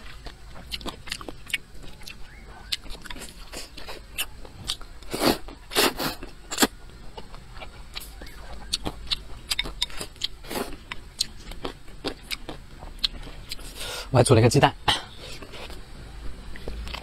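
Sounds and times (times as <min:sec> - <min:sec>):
wet chewing: 0:00.0 - 0:13.8.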